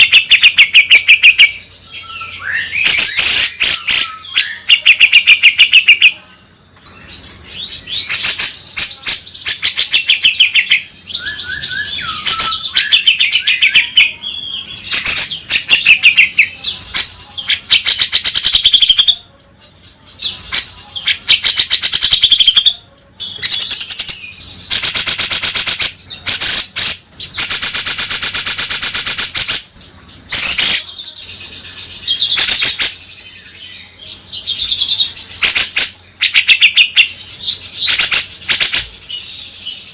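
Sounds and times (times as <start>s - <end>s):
bird harsh chattering calls: 0.0s - 19.5s, 20.4s - 33.8s, 34.5s - 39.9s.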